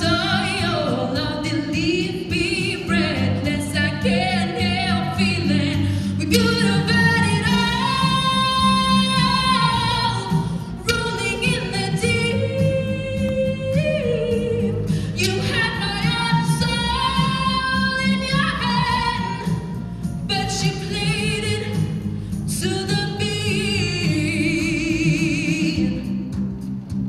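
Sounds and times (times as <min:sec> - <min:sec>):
woman singing with vibrato: 0:00.0 - 0:26.3
musical accompaniment with bass: 0:00.0 - 0:27.0.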